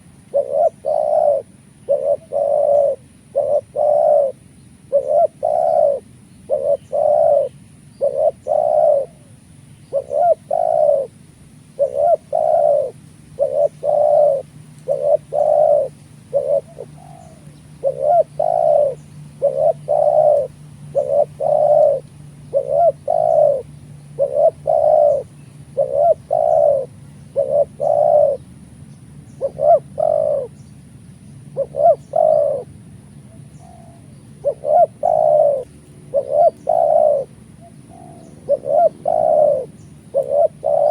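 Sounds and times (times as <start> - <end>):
doves cooing: 0.0 - 30.7, 31.4 - 40.9.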